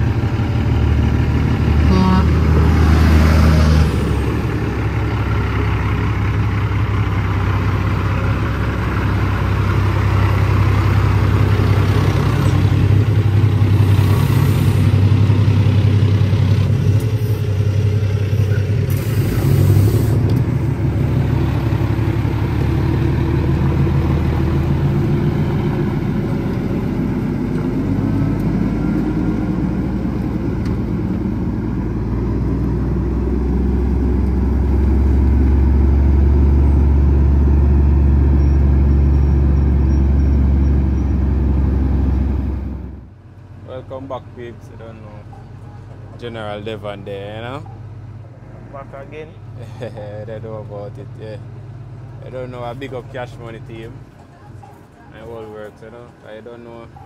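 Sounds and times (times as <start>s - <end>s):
diesel engine pulling under load: 0.0s - 57.0s.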